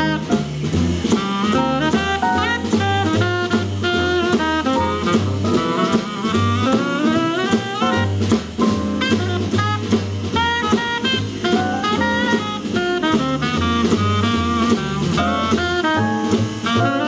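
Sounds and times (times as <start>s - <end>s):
drum kit with cymbals: 0.0s - 17.0s
tenor saxophone melody: 0.0s - 17.0s
upright bass: 0.0s - 17.0s.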